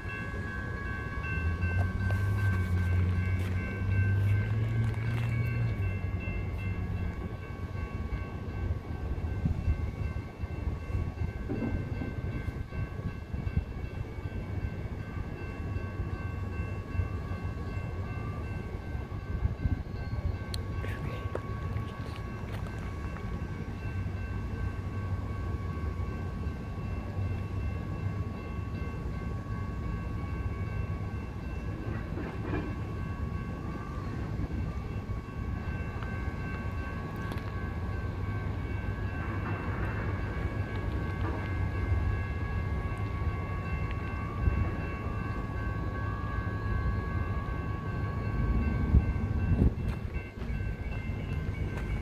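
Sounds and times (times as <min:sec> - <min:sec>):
freight train rumbling: 0:00.0 - 0:52.0.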